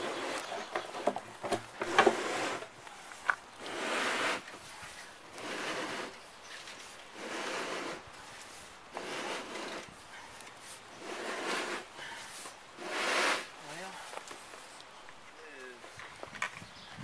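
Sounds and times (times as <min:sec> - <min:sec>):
scraping on rough surface: 0:00.0 - 0:14.8.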